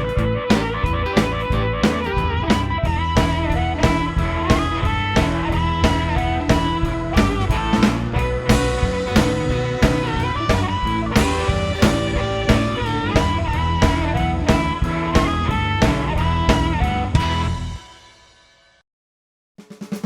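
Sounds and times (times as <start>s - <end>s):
electric guitar lines: 0.0s - 17.8s
drum kit beat: 0.0s - 18.0s, 19.6s - 20.0s.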